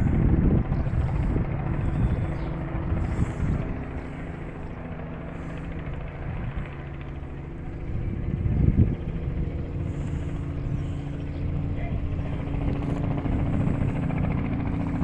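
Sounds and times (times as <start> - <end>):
engine droning: 0.0 - 15.0
wind buffeting microphone: 0.0 - 15.0.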